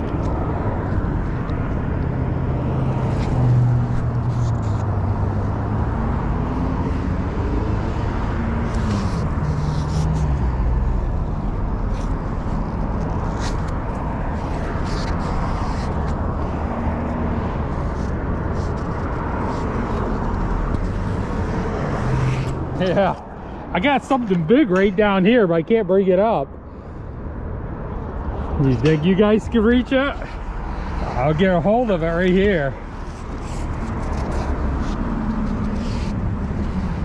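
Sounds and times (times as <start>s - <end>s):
car engines humming: 0.0s - 37.0s.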